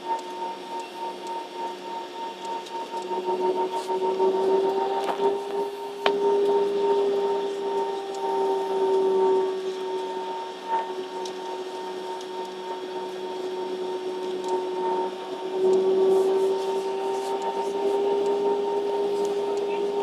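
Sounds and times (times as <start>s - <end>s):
airliner cabin drone: 0.0s - 20.0s.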